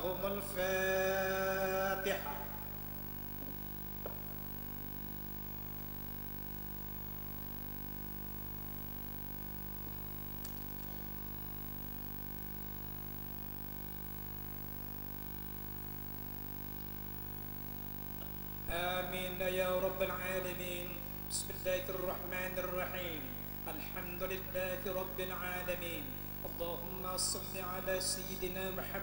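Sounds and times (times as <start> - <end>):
sound system hum and hiss: 0.0 - 29.0.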